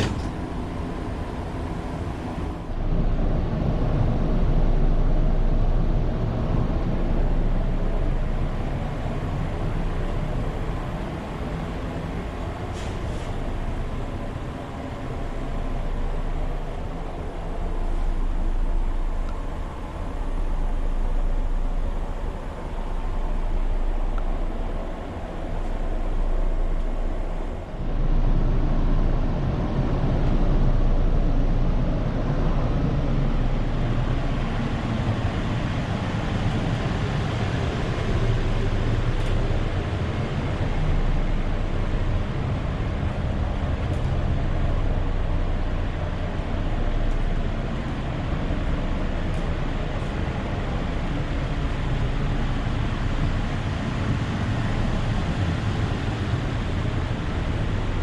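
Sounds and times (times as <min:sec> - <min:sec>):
light rail car rumble and hum: 0:00.0 - 0:58.0.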